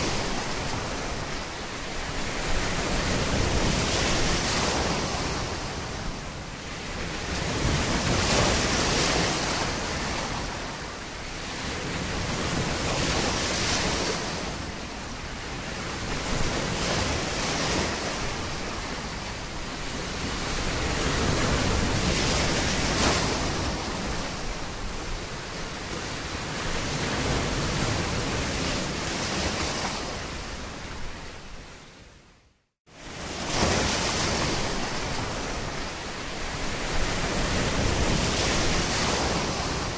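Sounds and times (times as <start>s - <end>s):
sea waves rolling in: 0.0s - 39.9s.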